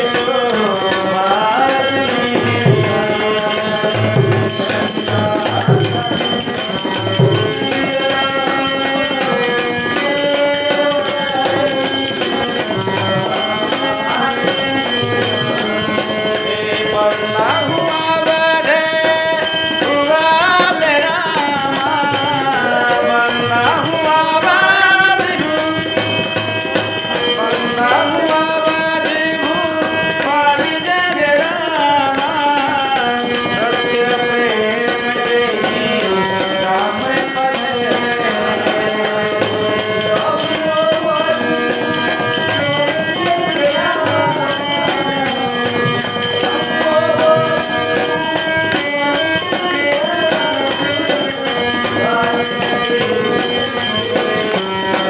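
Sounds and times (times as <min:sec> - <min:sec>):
harmonium melody: 0:00.0 - 0:55.0.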